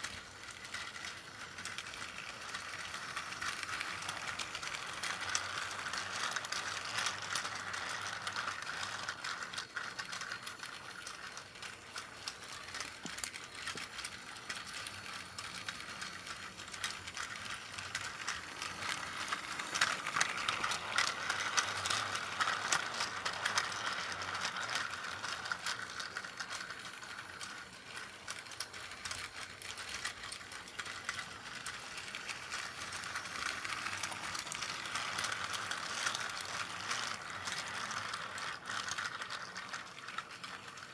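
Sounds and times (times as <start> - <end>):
rapid clicking rattle of wheels: 0.0 - 40.9
toy train motor whirring: 0.0 - 40.9.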